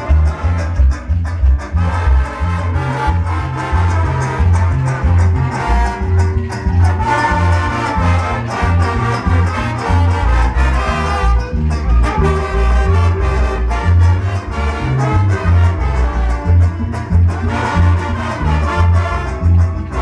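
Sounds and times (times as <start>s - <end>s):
brass-led latin dance music: 0.0s - 20.0s
heavy bass beat: 0.0s - 20.0s.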